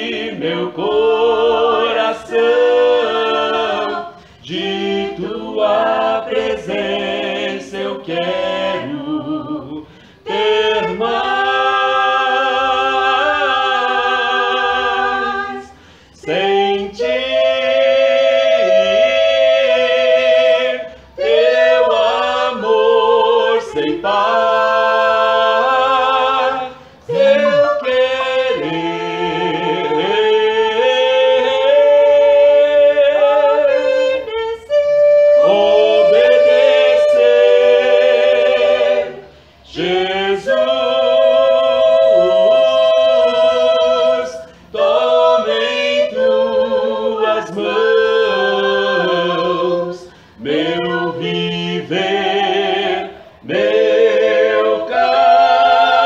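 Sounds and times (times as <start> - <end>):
people singing a cappella hymn: 0.0 - 56.0.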